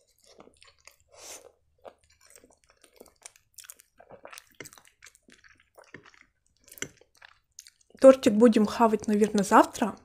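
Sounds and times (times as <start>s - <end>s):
person chewing: 0.0s - 8.0s.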